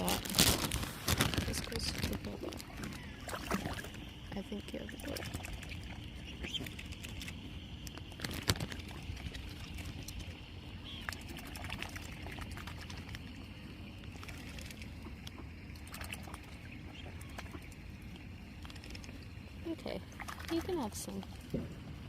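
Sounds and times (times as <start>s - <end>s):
small splashes in water: 0.0s - 21.6s
steady low rumble: 0.0s - 22.0s.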